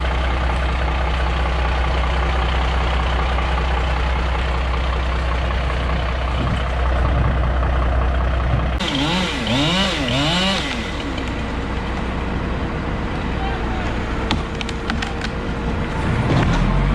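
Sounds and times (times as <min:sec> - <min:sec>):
heavy engine idling: 0:00.0 - 0:16.9.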